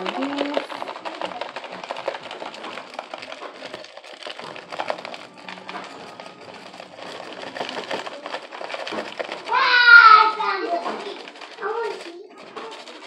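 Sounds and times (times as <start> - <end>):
fried onions pattering onto food: 0.0 - 13.0.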